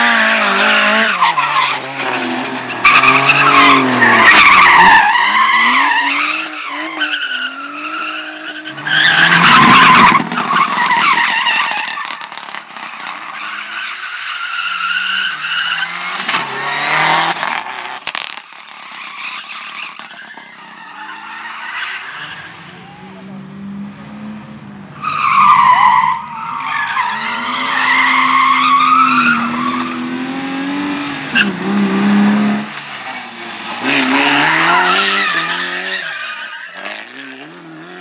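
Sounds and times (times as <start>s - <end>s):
rally car engine revving: 0.0s - 13.8s, 14.8s - 18.4s, 22.1s - 36.2s
tyres skidding: 0.0s - 38.0s.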